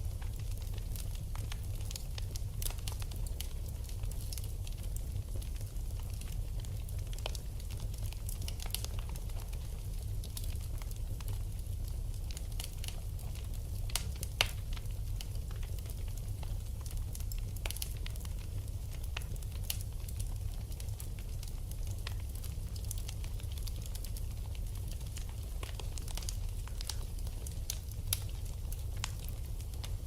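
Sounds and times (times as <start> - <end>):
low fire rumble: 0.0 - 30.0
wood fire crackling and popping: 0.0 - 30.0.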